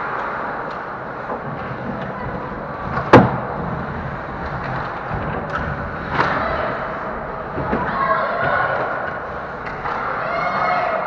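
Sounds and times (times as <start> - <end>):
skates on ice: 0.0 - 11.0.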